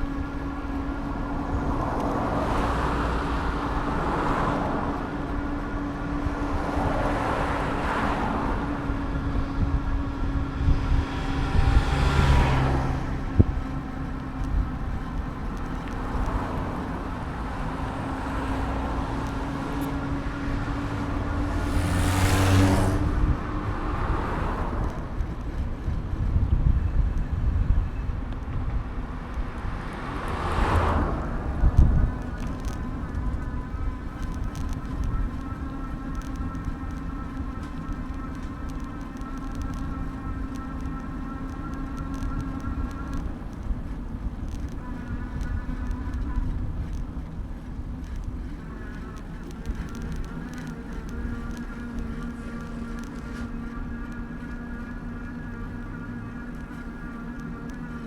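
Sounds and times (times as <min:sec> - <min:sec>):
cars passing: 0:00.0 - 0:58.0
road and wind rumble: 0:00.0 - 0:58.0.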